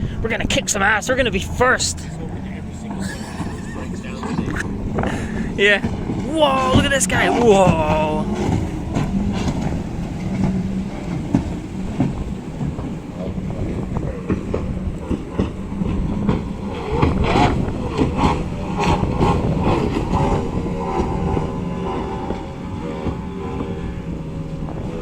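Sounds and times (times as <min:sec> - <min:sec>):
powerboat engines droning: 0:00.0 - 0:25.0.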